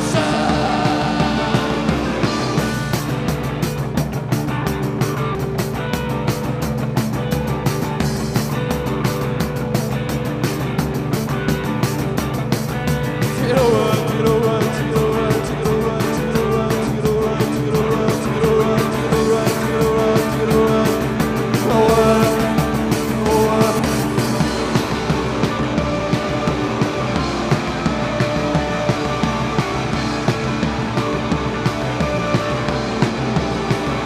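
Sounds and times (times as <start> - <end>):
drums keeping steady beat: 0.0 - 34.0
rock band playing live: 0.0 - 34.0.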